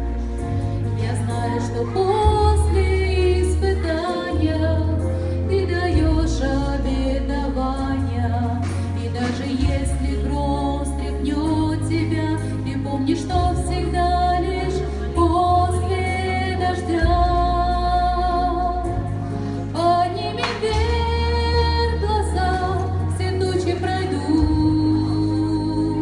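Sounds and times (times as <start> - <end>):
deep held bass chords: 0.0 - 26.0
woman singing: 0.8 - 26.0.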